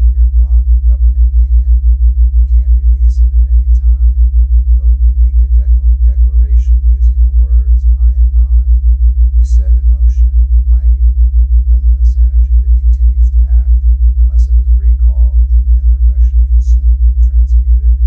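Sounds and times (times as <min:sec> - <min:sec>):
low pulsing hum: 0:00.0 - 0:18.0.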